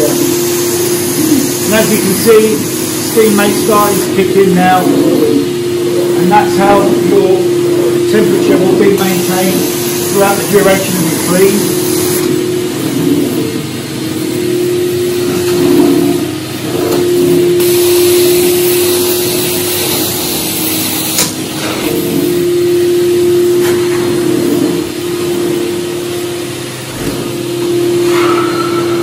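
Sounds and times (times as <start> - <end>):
carpet extraction machine whine: 0.0 - 29.0.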